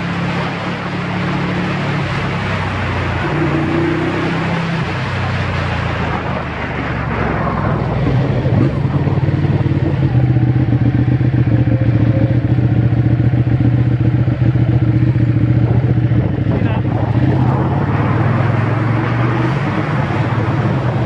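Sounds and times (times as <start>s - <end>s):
motorcycle engine at low revs: 0.0s - 21.0s
wind noise: 0.0s - 21.0s.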